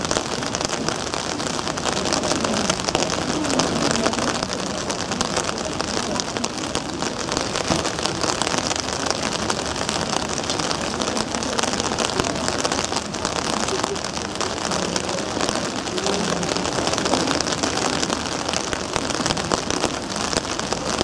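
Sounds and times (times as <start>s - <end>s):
rain on a hard surface: 0.0s - 21.0s.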